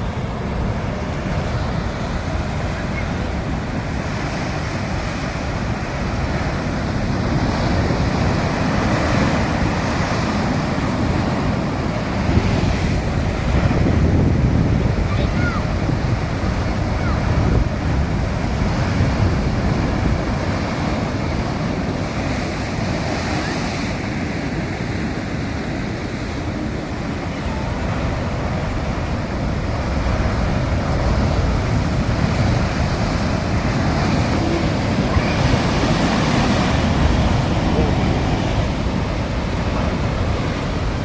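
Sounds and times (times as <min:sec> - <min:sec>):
sea waves breaking on shore: 0:00.0 - 0:41.0
wind rumbling on microphone: 0:00.0 - 0:41.0.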